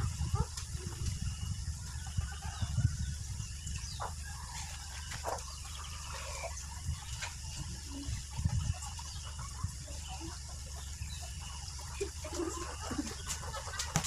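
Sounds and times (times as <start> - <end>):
birds chirping: 0.0 - 14.0
chickens clucking: 0.0 - 14.0.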